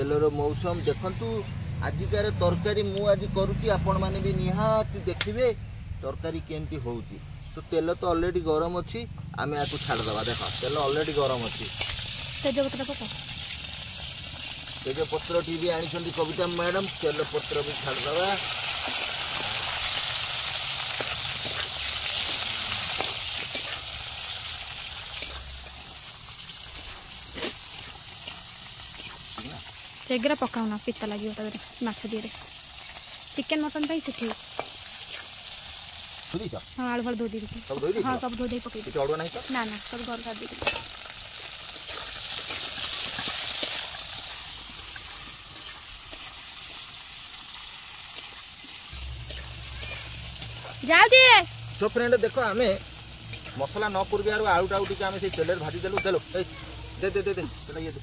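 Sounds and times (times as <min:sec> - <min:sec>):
fish sizzling in hot oil: 0:09.5 - 0:58.0.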